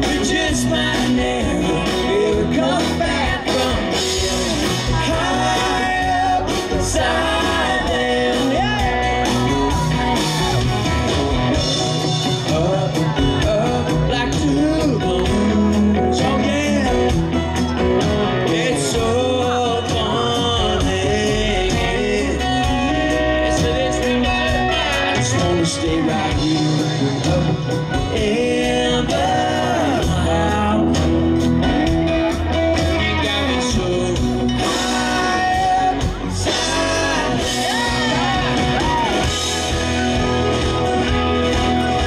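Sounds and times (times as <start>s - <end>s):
acoustic and electric guitars: 0.0s - 42.0s
drums: 0.0s - 42.0s
person singing: 0.0s - 42.0s.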